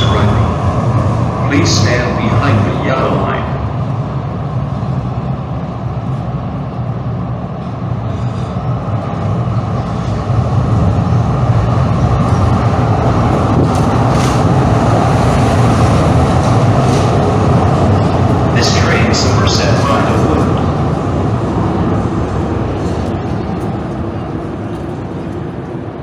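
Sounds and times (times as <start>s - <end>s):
light-rail train rumbling: 0.0s - 26.0s.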